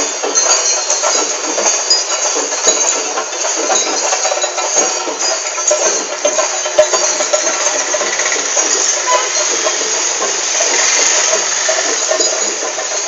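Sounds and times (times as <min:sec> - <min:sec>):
steady hissing roadside noise: 0:00.0 - 0:13.0.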